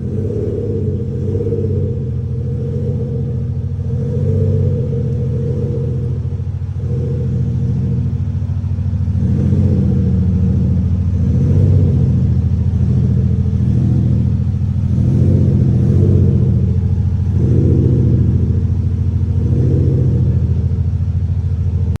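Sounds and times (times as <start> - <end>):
deep engine-like exhaust rumble: 0.0 - 22.0.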